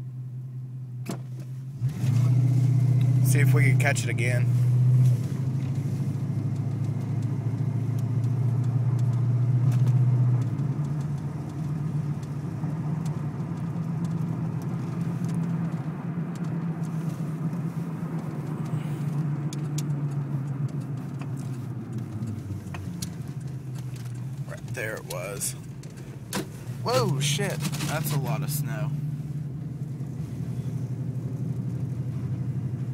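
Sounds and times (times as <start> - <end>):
car engine drone: 0.0 - 32.9.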